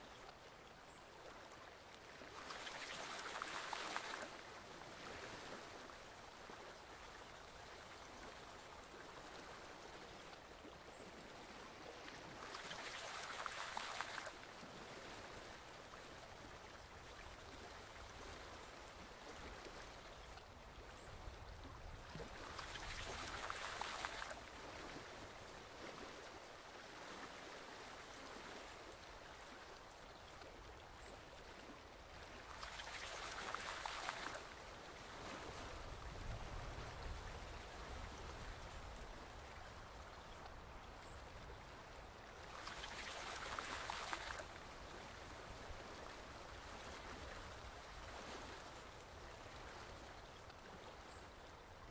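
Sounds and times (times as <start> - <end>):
forest stream flowing: 0.0 - 51.9.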